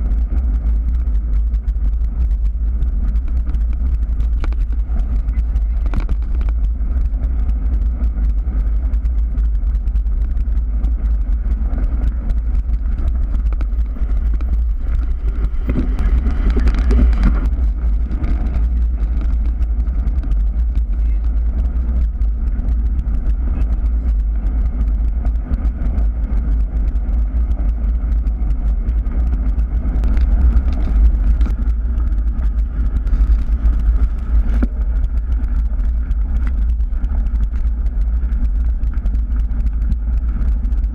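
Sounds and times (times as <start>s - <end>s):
bicycle tyres on gravel: 0.0s - 40.9s
wind buffeting microphone: 0.0s - 40.9s.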